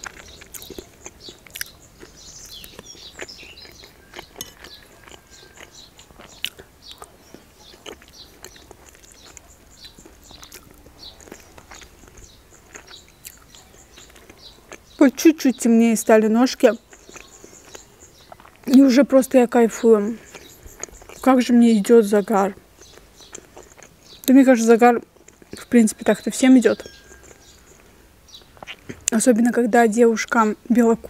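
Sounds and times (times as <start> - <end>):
close-up chewing and mouth sounds: 0.0 - 29.2
faint birds chirping: 0.0 - 31.0.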